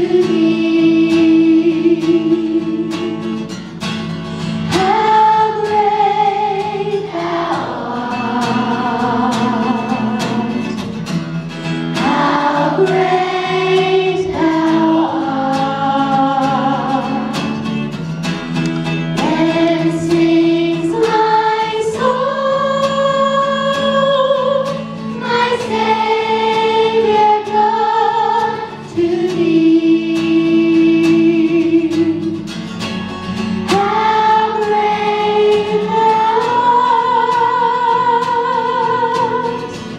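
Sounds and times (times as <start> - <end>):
children's choir singing: 0.0 - 3.3, 4.7 - 11.1, 11.8 - 17.8, 19.1 - 32.4, 33.6 - 39.9.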